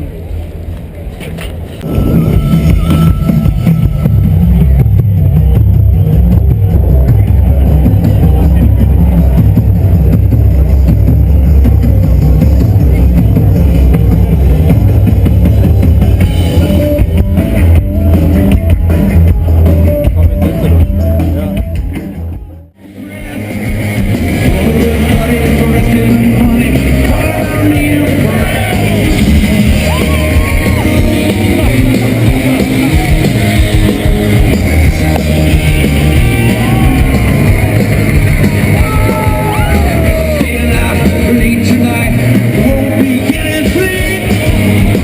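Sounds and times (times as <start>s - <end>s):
loud rock music: 1.8s - 45.0s.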